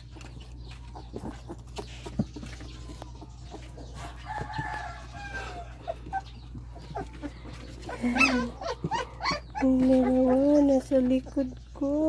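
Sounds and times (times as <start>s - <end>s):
puppies scraping on wooden floor: 0.0s - 12.0s
drawn-out animal call: 0.4s - 12.0s.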